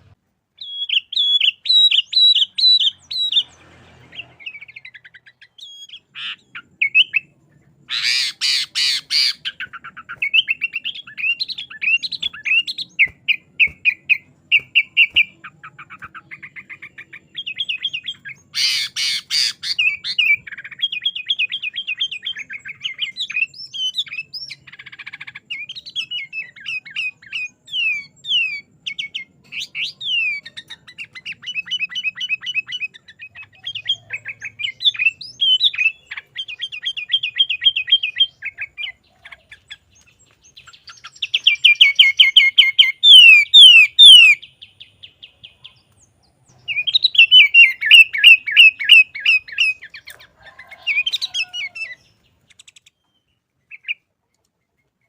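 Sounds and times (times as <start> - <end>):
bird chirping and whistling: 0.6 - 45.3, 46.6 - 54.0.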